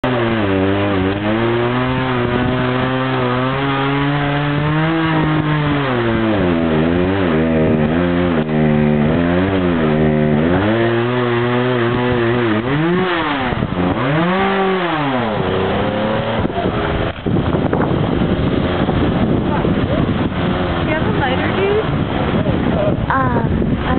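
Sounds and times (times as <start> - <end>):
chainsaw engine revving: 0.0 - 23.9.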